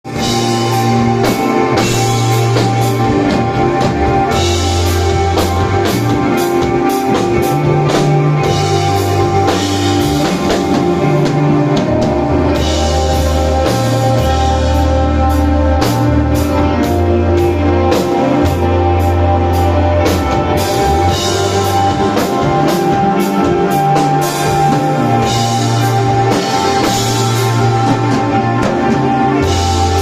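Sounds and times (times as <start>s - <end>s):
bass long low notes: 0.0s - 30.0s
rock band playing: 0.0s - 30.0s.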